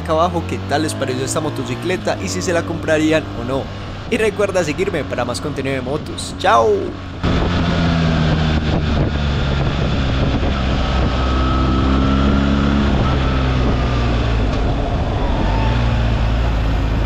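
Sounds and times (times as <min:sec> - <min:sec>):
motorcycle engine slowing: 0:00.2 - 0:17.0
wind rushing over microphone: 0:02.0 - 0:17.0.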